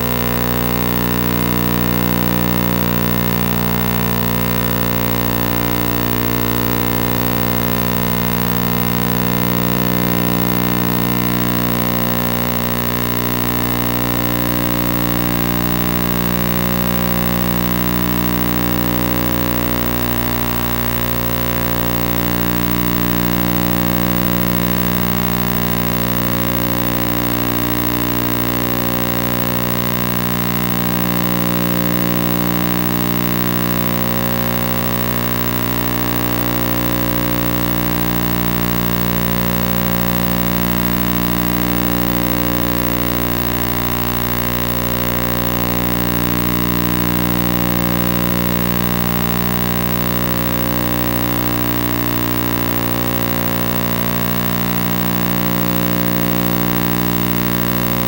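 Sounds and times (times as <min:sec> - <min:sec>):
electronic drone: 0:00.0 - 0:58.0.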